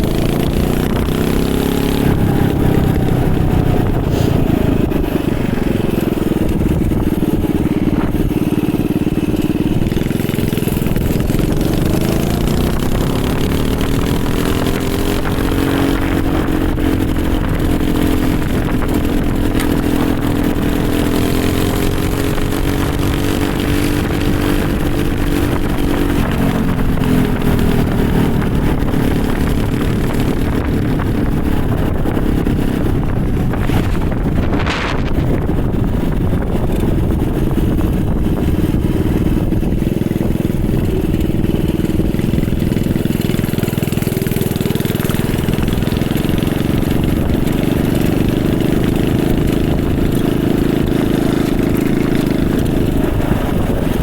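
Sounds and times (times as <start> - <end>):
low wind rumble: 0.0 - 54.0
small single-cylinder engine running: 0.0 - 54.0.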